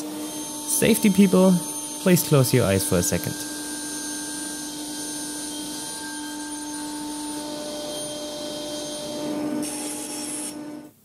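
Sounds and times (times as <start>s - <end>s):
table saw whine: 0.0s - 11.0s.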